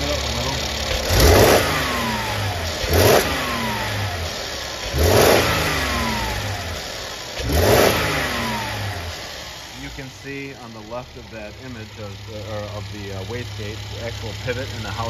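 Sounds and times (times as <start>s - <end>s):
car engine revving: 0.0s - 15.0s
turbo wastegate rattle: 0.0s - 15.0s.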